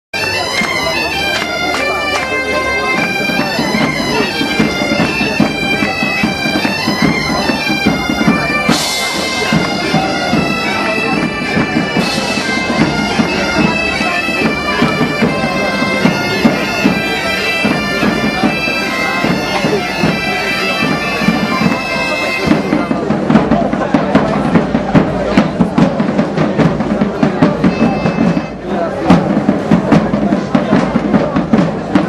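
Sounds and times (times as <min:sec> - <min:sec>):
bagpipe band playing: 0:00.2 - 0:32.0
snare and bass drums beating: 0:00.8 - 0:32.0.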